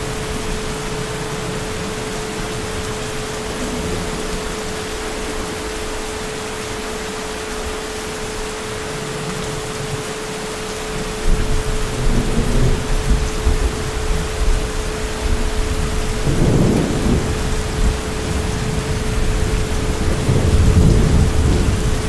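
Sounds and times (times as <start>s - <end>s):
thunder rumbling: 0.0s - 6.8s, 11.1s - 22.0s
heavy rain: 0.0s - 22.0s.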